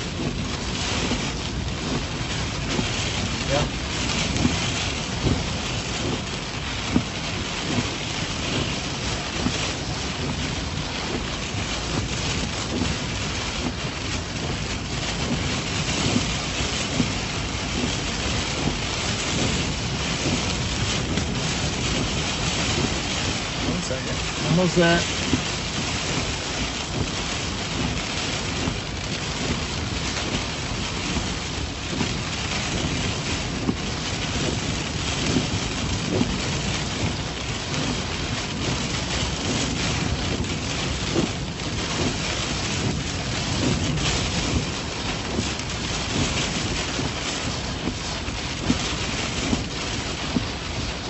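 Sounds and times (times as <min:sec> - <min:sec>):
heavy rain: 0:00.0 - 0:51.0
wind buffeting microphone: 0:00.0 - 0:51.0.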